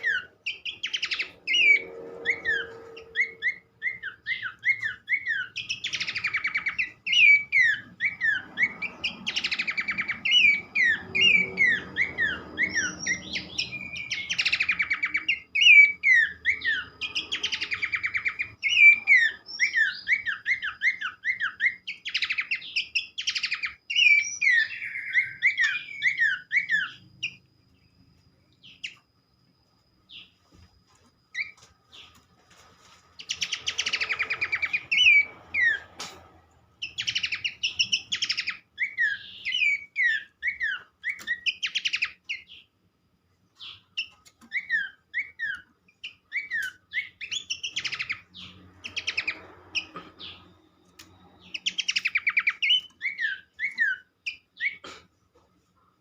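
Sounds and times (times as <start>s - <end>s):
bird whistled song: 0.0s - 29.1s, 31.3s - 32.2s, 33.2s - 36.0s, 36.8s - 42.7s, 43.6s - 54.8s.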